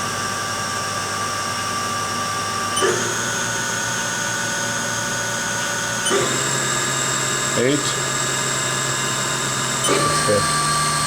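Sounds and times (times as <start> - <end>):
machine spindle whine: 2.0 - 11.0.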